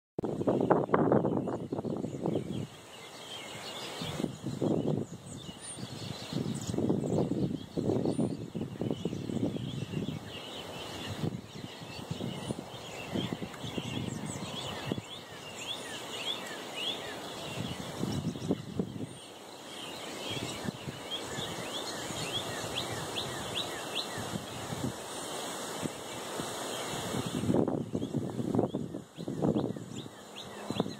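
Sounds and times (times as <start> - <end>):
birds chirping: 0.3 - 30.9.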